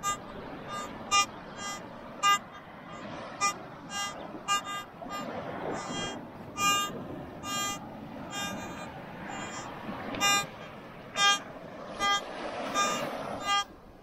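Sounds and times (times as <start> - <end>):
metal detector beeps: 0.0 - 13.7
surf hissing: 0.0 - 14.0.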